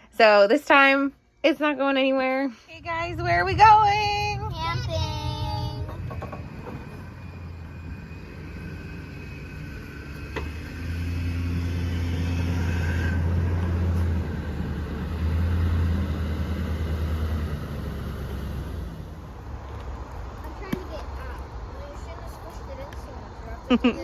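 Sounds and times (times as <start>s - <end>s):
vehicle engine and road rumble: 2.6s - 24.0s.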